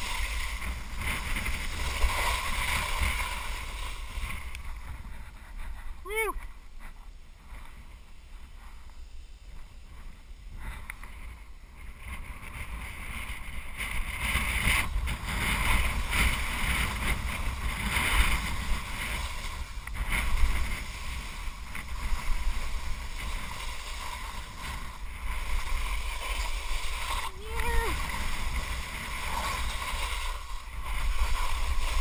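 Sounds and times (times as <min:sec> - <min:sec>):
skis scraping over snow: 0:00.0 - 0:32.0
wind on microphone: 0:00.0 - 0:32.0.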